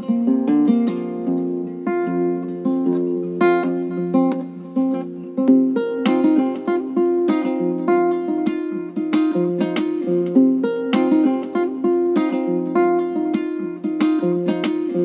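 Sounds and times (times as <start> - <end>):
plucked acoustic guitar music: 0.0 - 15.0.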